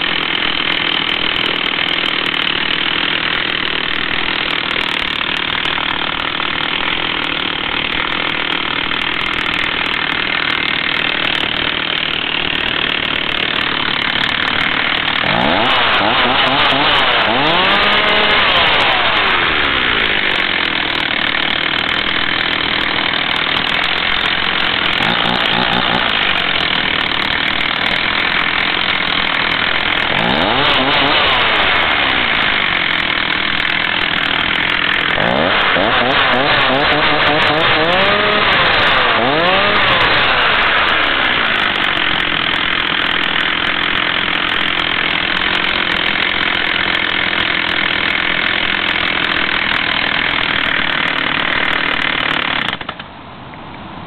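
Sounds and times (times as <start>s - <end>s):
chainsaw idling and revving: 0.0s - 53.2s.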